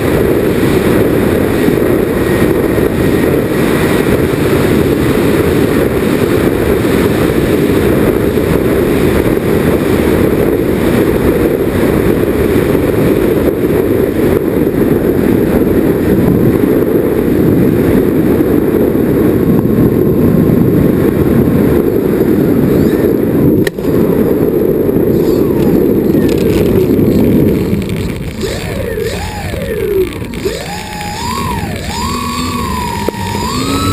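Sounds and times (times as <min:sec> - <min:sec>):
muffled wind and propeller rush: 0:00.0 - 0:33.9.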